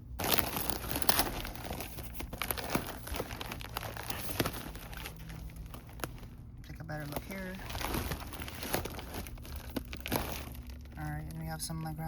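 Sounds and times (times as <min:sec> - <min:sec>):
plastic shrink-wrap crinkling: 0:00.0 - 0:12.0.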